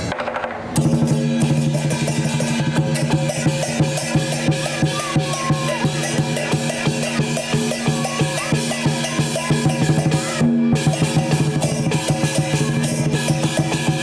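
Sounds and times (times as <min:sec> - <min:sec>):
big drum beating: 0:00.7 - 0:14.0
cymbals clashing: 0:00.8 - 0:14.0
gong ringing: 0:00.8 - 0:14.0.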